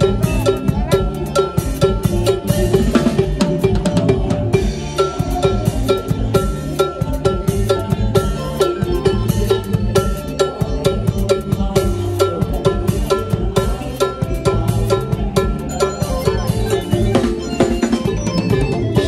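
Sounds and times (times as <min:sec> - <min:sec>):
band holding notes: 0:00.0 - 0:19.0
drum kit playing: 0:00.0 - 0:19.0.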